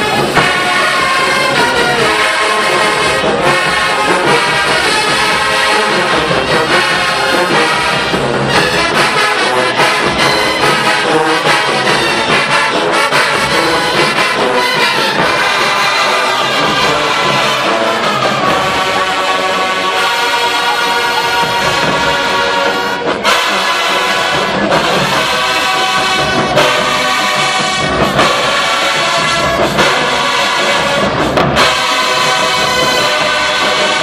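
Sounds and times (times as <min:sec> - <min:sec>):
brass section playing: 0:00.0 - 0:34.0
marching band drums: 0:00.0 - 0:34.0.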